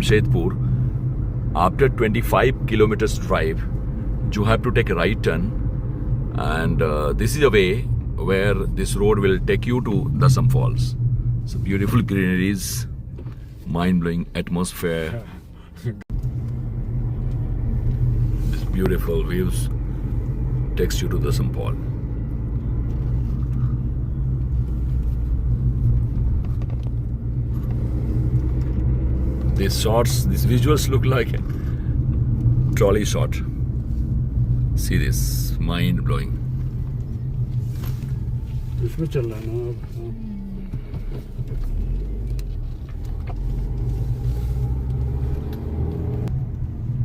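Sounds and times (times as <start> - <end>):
car engine and road noise: 0.0 - 47.0.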